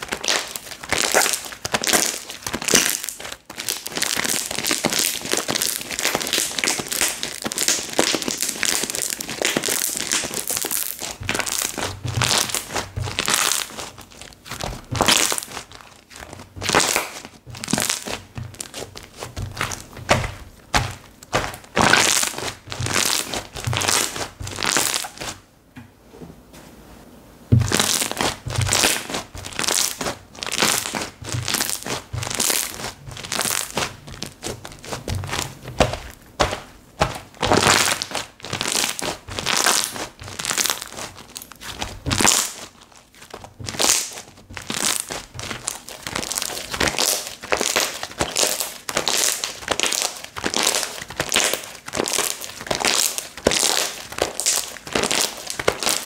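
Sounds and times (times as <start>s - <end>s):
slime squished by hand: 0.0s - 25.4s, 27.5s - 56.0s.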